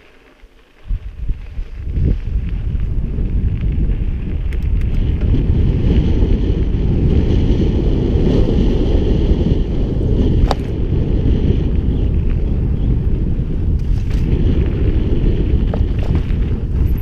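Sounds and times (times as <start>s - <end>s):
bike tyres rolling on gravel: 0.0s - 17.0s
wind on microphone: 0.8s - 17.0s.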